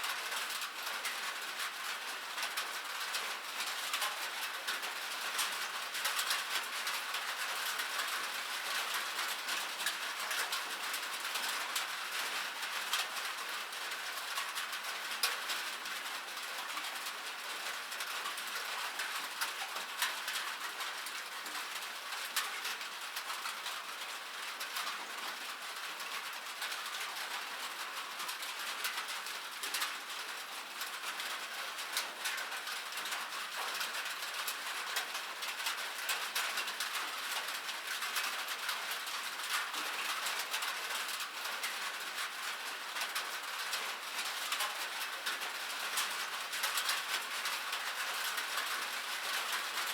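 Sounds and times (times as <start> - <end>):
rain on a metal surface: 0.0 - 49.9.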